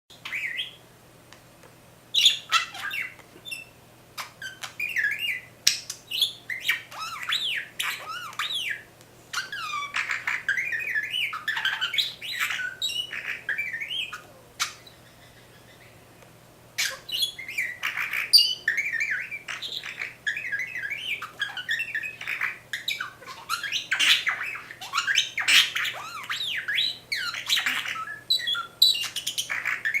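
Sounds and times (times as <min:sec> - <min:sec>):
budgerigar chattering: 0:02.1 - 0:16.0, 0:16.8 - 0:30.0.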